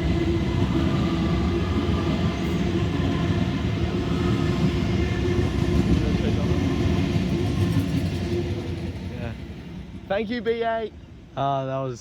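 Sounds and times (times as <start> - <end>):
train wheels rumbling on rail: 0.0 - 11.9.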